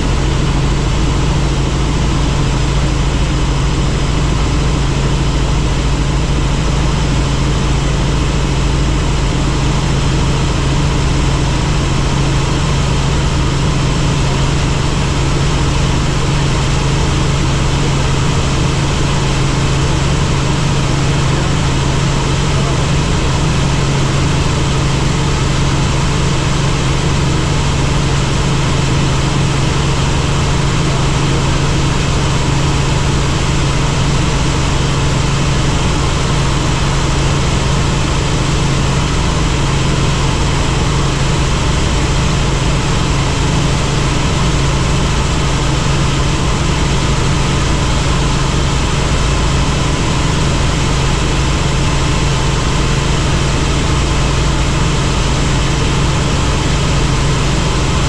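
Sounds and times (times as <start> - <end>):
helicopter rotor and engine drone: 0.0 - 58.0.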